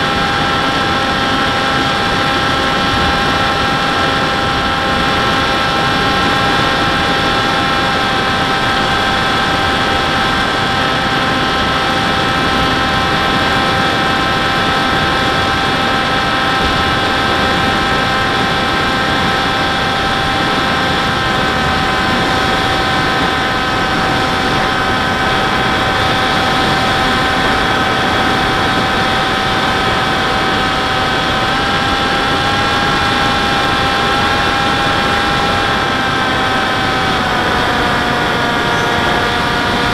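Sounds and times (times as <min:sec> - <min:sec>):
model airplane motor whine: 0:00.0 - 0:39.9.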